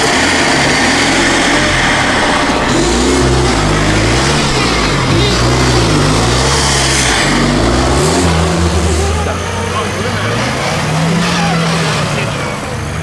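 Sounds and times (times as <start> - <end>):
engine revving: 0.0 - 13.0
loud rushing noise: 0.0 - 13.0.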